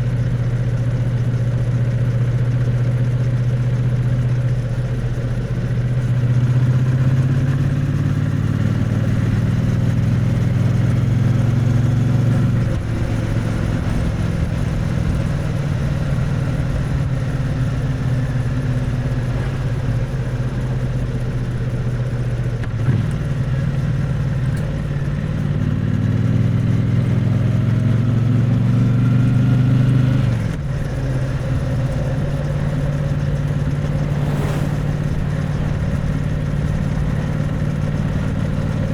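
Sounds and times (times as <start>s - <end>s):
motorcycle engine revving: 5.8s - 38.9s.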